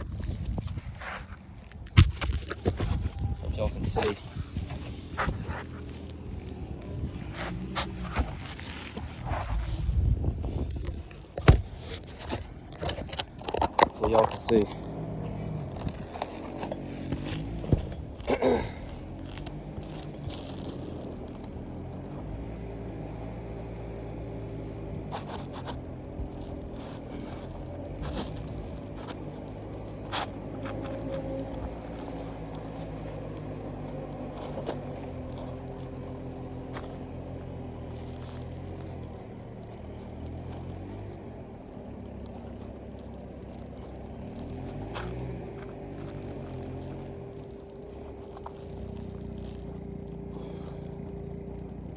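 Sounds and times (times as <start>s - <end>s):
roof shingles scraped: 0.0s - 51.9s
phone handling clicks and rustles: 0.1s - 51.9s.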